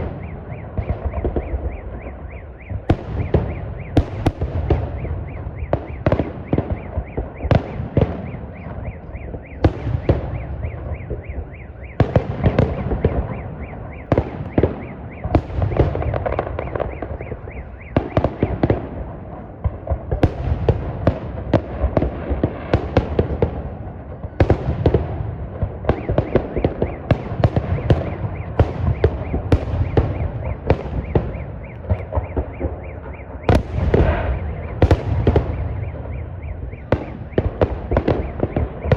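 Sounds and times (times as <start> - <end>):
fireworks bangs and pops: 0.0 - 38.9.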